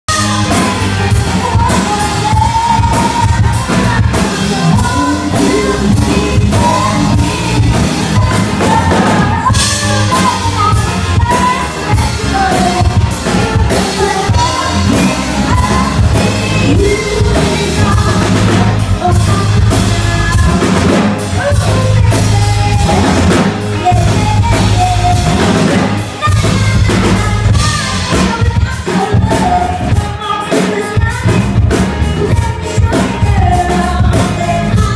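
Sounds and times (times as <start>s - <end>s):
drum kit: 0.1s - 34.9s
guitar: 0.1s - 34.9s
keyboard: 0.1s - 34.9s
woman singing: 0.1s - 34.9s.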